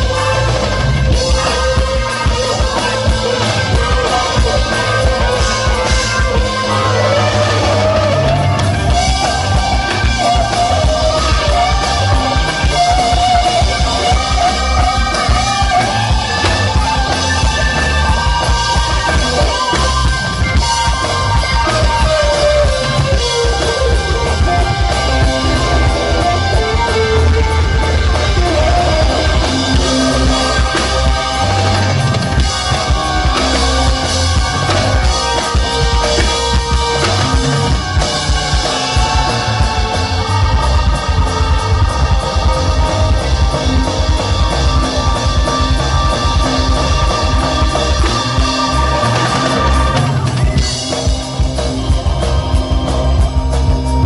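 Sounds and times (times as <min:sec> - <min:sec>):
drum kit beat: 0:00.0 - 0:54.0
electric bass: 0:00.0 - 0:54.0
electric guitar: 0:00.0 - 0:54.0
keyboard: 0:00.0 - 0:54.0.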